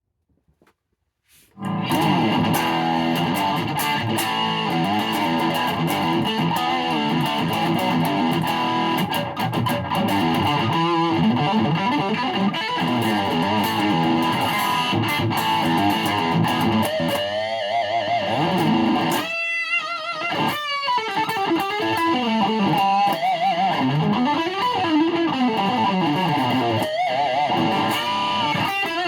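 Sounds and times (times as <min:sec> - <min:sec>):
electric guitar picked notes: 0:01.6 - 0:29.0.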